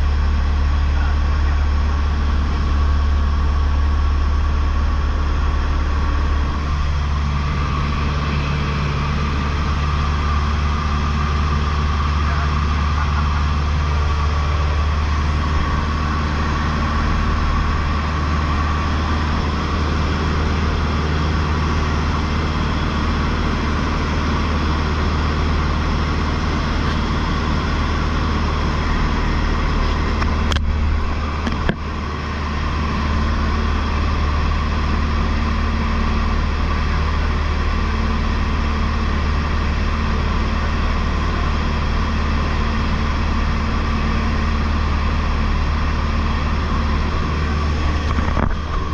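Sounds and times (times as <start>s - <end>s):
airplane engine droning: 0.0s - 48.9s.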